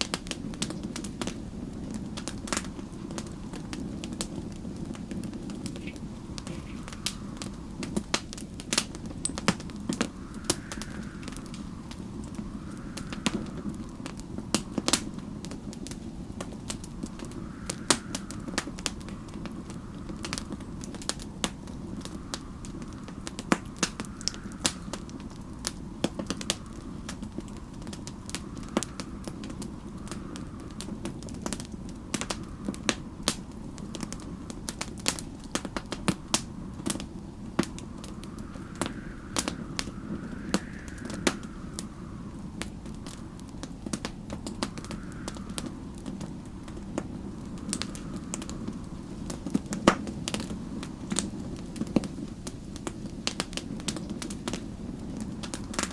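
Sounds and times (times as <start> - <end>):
whistling snowstorm wind: 0.0 - 55.9
wood fire crackling and popping: 0.0 - 55.9.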